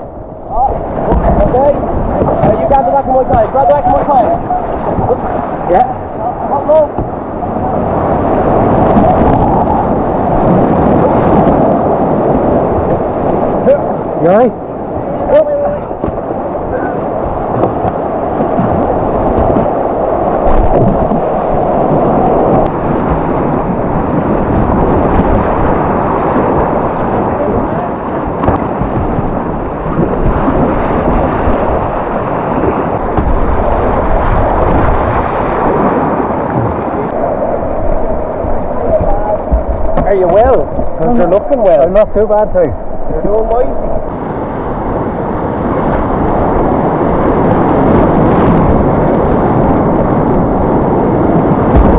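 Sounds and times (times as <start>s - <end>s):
river water rushing: 0.0s - 49.2s
wind buffeting microphone: 0.0s - 51.9s.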